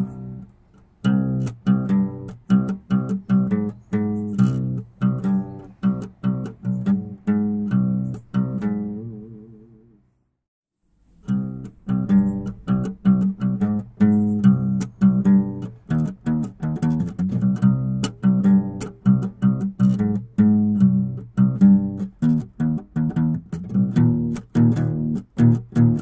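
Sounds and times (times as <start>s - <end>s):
plucked guitar music: 0.0s - 10.0s, 11.2s - 26.0s.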